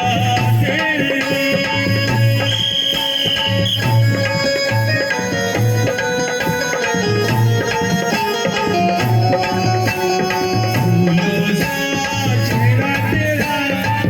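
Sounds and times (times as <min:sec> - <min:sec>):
instrumental music with drums: 0:00.0 - 0:14.0.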